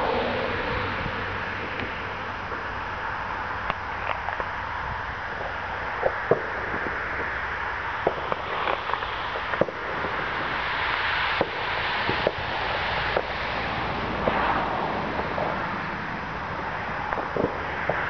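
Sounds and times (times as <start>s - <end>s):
distant fireworks bangs: 0.0s - 18.0s
steady hiss: 0.0s - 18.0s.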